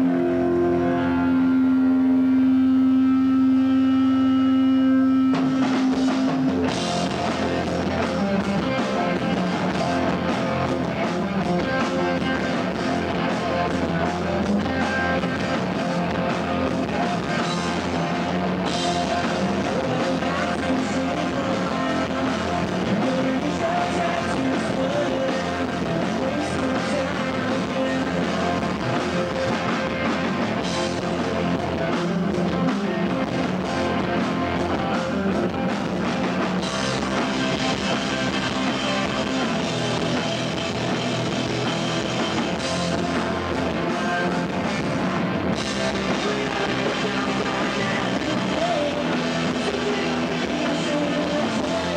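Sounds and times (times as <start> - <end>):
bass guitar: 0.0 - 51.9
distorted electric guitars: 0.0 - 51.9
drum kit: 0.0 - 51.9.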